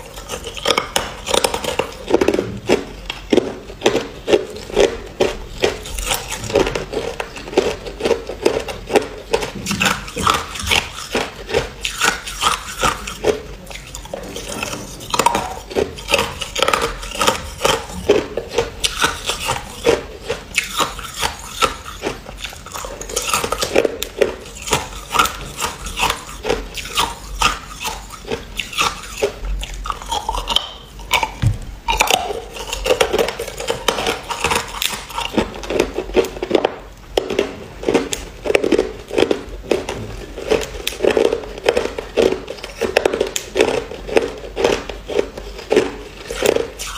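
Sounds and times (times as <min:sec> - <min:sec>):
person chewing ice: 0:00.0 - 0:46.9.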